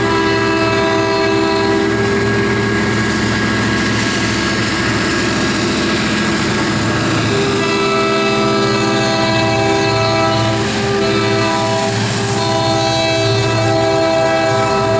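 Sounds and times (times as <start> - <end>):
diesel locomotive engines droning: 0.0 - 14.9
higher steady tones: 0.0 - 14.9.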